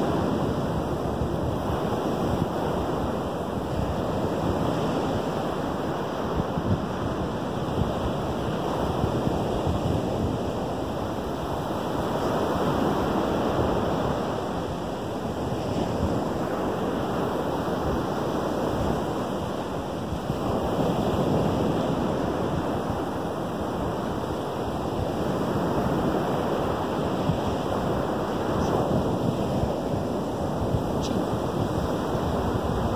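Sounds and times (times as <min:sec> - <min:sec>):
small waves breaking on shore: 0:00.0 - 0:32.9
wind rumbling on microphone: 0:00.0 - 0:32.9.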